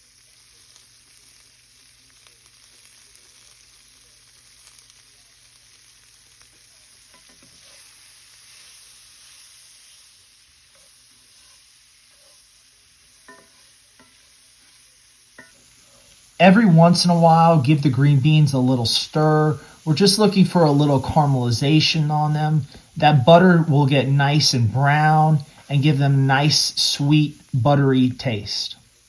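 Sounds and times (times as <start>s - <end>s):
beans sizzling in a skillet: 0.0s - 29.0s.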